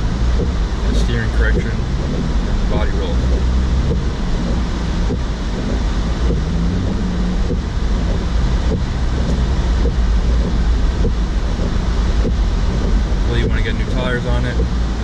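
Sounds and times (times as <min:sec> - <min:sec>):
tyre and road noise: 0:00.0 - 0:15.0
windshield wipers beating: 0:00.0 - 0:15.0.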